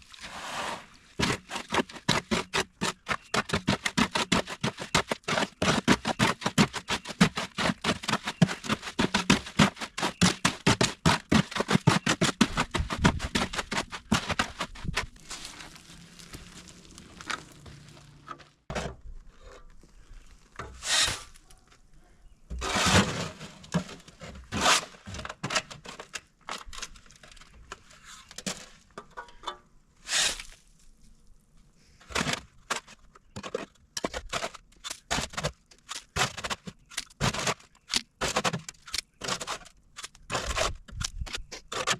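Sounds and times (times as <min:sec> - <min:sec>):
tool scraping soil and rock: 0:00.0 - 0:21.6, 0:22.5 - 0:28.9, 0:30.0 - 0:30.9, 0:32.0 - 0:41.9.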